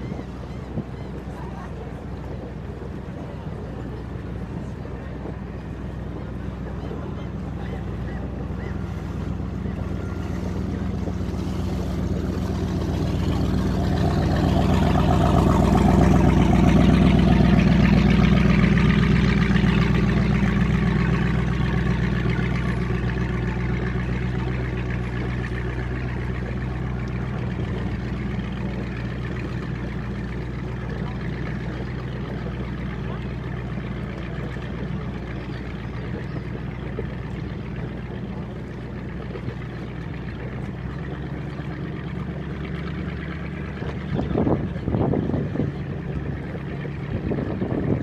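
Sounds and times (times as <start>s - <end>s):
boat engine humming: 0.0s - 48.0s.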